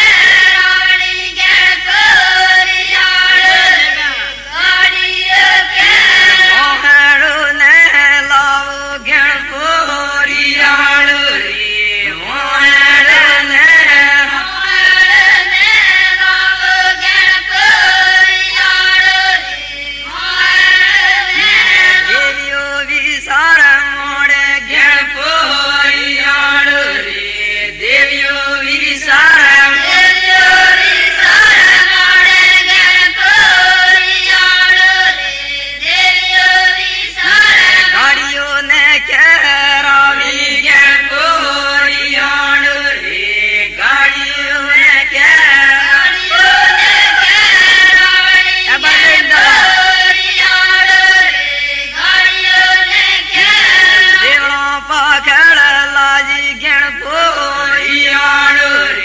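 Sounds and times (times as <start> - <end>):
women singing folk song in chorus: 0.0 - 59.0.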